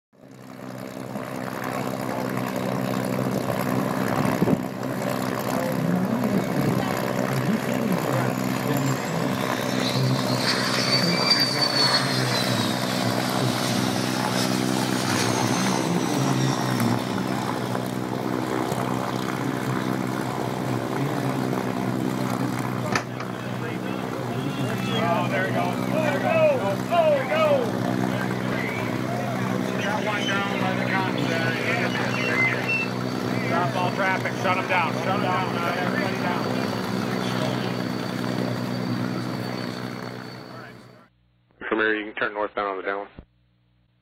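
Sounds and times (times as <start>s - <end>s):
propeller aircraft engine droning: 0.2s - 41.2s
jet passing with high whine: 0.4s - 41.1s.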